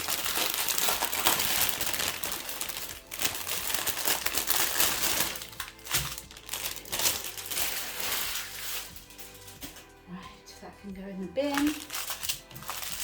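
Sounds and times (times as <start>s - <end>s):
plastic packaging crinkling: 0.0s - 9.9s, 11.3s - 13.0s.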